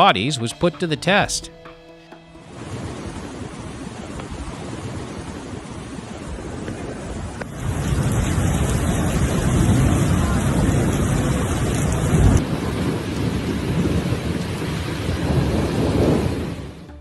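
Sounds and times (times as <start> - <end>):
heavy rain pouring: 2.5 - 16.8
thunder rumbling: 2.6 - 16.8.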